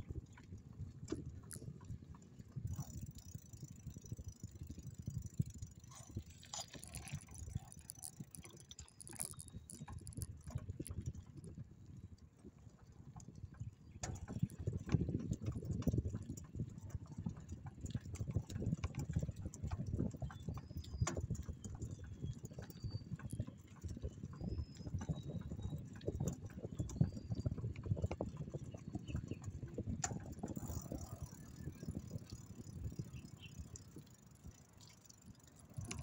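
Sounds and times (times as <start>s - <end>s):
bike rattling over rough ground: 0.0s - 36.0s.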